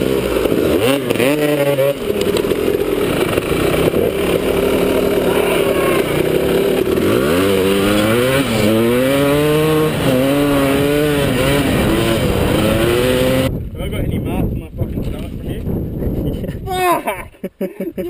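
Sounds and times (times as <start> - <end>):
dirt bike engine accelerating: 0.0 - 16.3.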